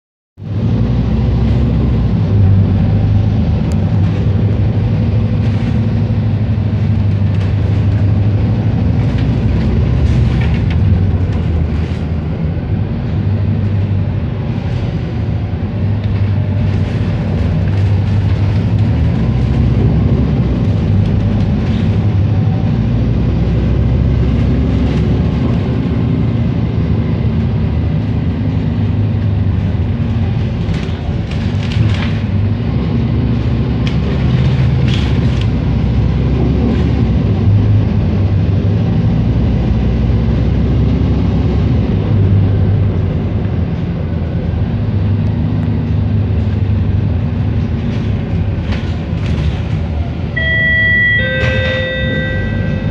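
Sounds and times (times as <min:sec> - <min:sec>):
engine and road rumble: 0:00.4 - 0:52.9.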